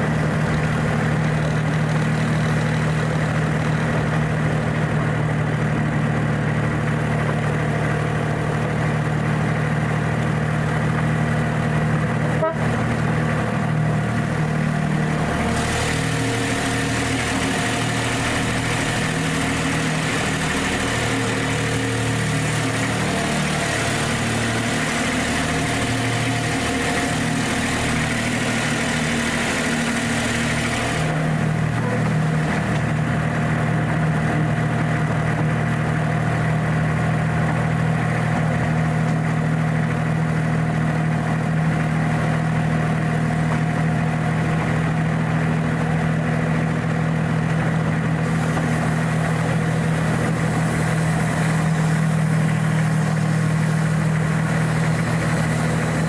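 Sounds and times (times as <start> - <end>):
miniature locomotive engine hum: 0.0 - 56.0.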